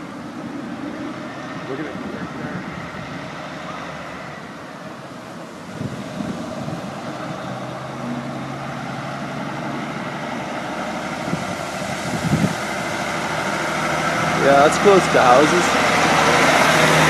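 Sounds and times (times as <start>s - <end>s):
road traffic: 0.0s - 17.0s
truck diesel engine running: 0.0s - 17.0s.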